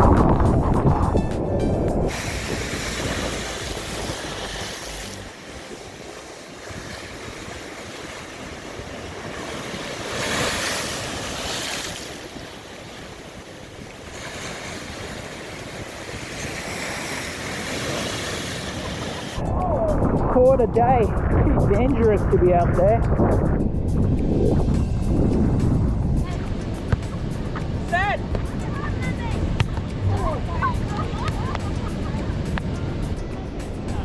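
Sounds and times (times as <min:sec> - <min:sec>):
wind buffeting microphone: 0:00.0 - 0:34.0
ocean surf: 0:02.0 - 0:22.4, 0:25.9 - 0:34.0.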